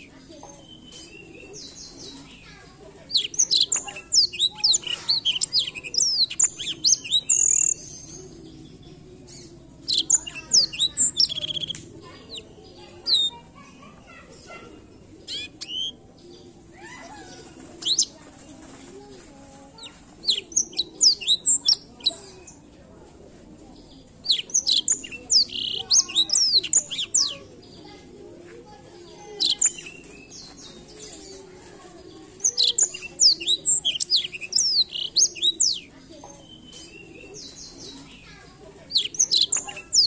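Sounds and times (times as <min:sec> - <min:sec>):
canary singing chirps and trills: 0:00.0 - 0:40.0.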